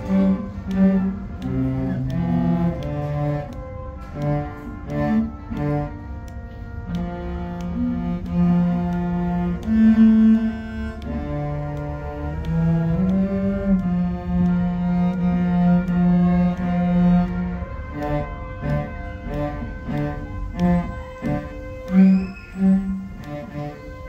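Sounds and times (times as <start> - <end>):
cellos playing: 0.0 - 24.0.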